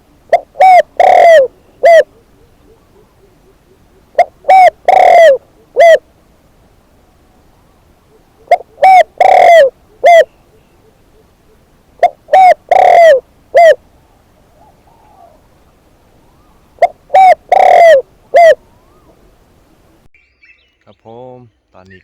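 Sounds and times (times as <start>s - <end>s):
dove cooing: 0.0s - 6.2s, 7.2s - 20.1s.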